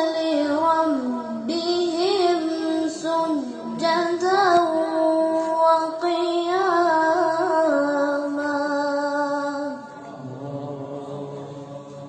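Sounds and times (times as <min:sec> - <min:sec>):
girl chanting recitation: 0:00.0 - 0:09.9.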